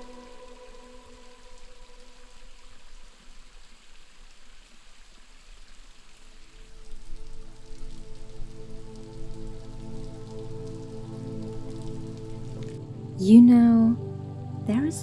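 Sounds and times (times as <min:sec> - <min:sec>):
soft sustained music chords: 0:00.0 - 0:03.8, 0:06.4 - 0:15.0.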